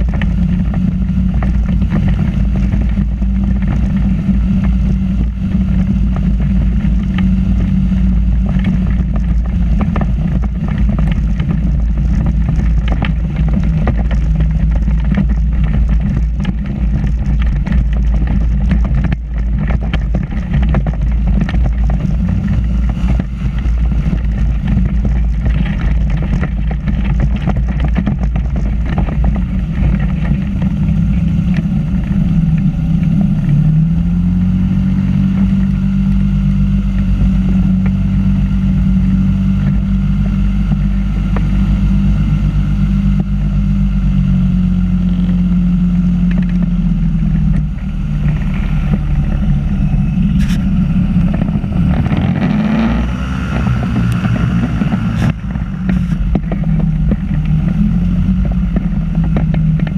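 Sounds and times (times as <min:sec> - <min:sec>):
microlight engine and propeller: 0:00.0 - 0:59.9.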